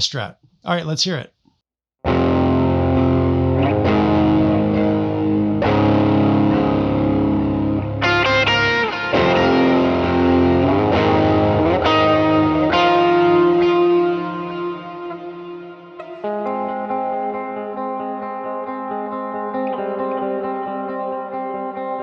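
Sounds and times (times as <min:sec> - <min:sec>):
electric guitar chords: 0:02.0 - 0:22.0
picked guitar notes: 0:02.1 - 0:22.0.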